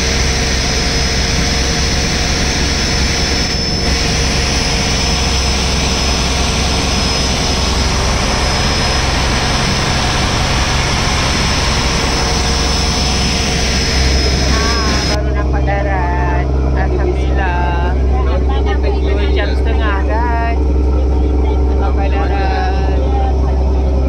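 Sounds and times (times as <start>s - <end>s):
boat engine drone: 0.0s - 24.0s
steady high whine: 0.0s - 24.0s.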